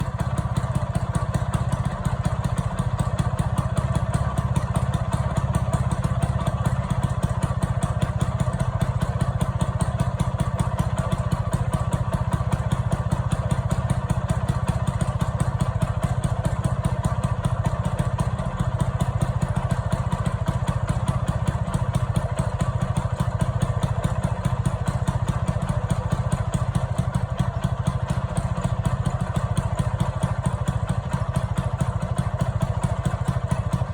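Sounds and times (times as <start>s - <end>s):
scooter engine idling: 0.0s - 33.9s.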